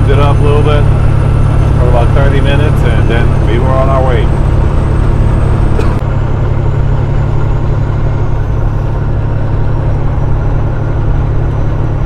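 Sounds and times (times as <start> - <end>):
road and wind noise: 0.0 - 12.0
truck diesel engine droning: 0.0 - 12.0.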